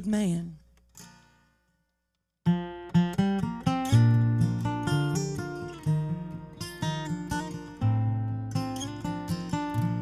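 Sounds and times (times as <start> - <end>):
strummed acoustic guitar: 0.9 - 1.7, 2.4 - 10.0.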